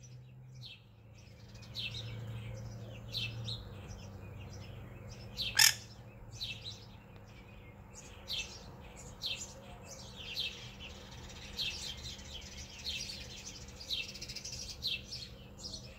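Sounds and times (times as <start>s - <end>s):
sparrows chirping: 0.0s - 15.9s.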